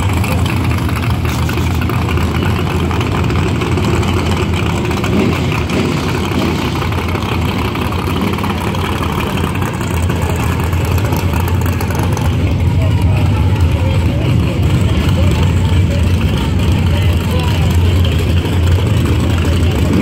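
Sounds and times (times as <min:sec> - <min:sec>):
loud car engine idling: 0:00.0 - 0:20.0.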